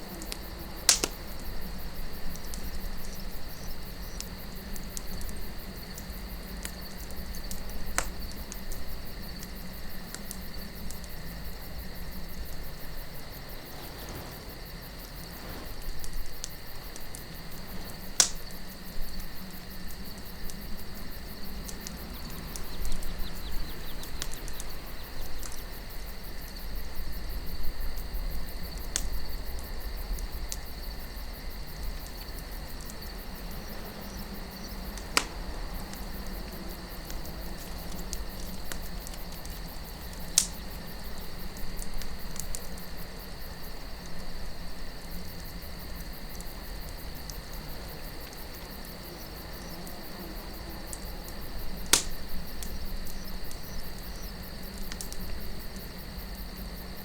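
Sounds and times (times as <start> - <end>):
campfire crackling and popping: 0.0 - 57.0
night insects chirring: 0.0 - 57.0
soft wind: 0.0 - 57.0.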